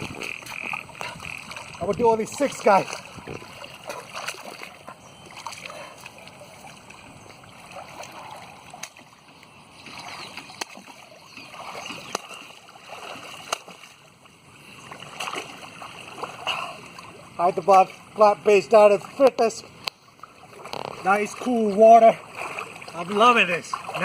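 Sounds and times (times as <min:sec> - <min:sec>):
water sloshing and splashing: 0:00.0 - 0:24.0.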